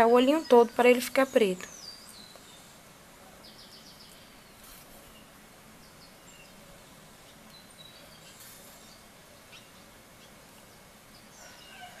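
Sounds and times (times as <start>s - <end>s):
background hiss: 0.0s - 12.0s
distant bird chirps: 0.0s - 12.0s.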